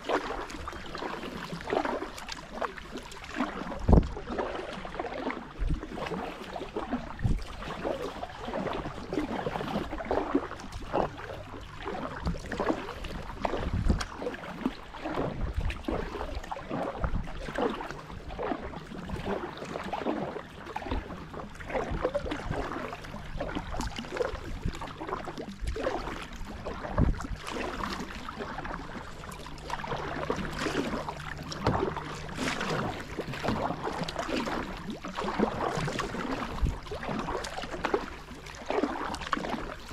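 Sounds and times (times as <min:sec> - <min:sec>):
kayak paddle dipping into water: 0:00.0 - 0:39.9
water splashing: 0:00.0 - 0:39.9.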